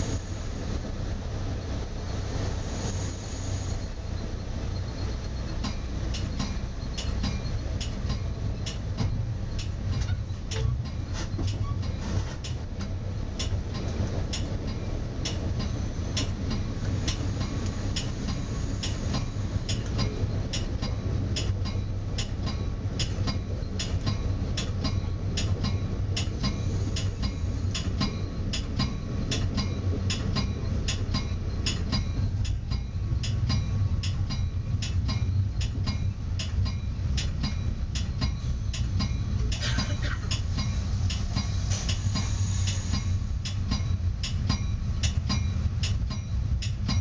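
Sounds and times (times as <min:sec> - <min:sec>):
train car rattling: 0:00.0 - 0:47.0
train wheels rumbling on rail: 0:00.0 - 0:47.0
wheels clicking over rail joints: 0:05.2 - 0:47.0.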